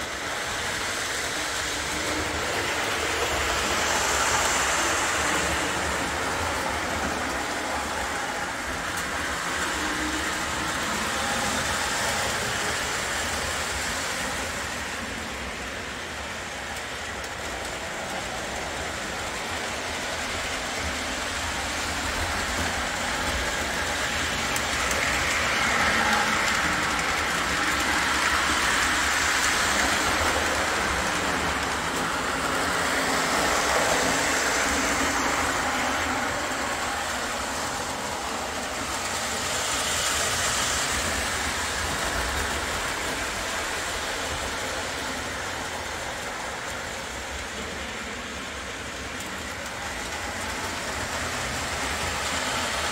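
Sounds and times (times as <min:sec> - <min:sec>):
model train running on track: 0:00.0 - 0:52.9.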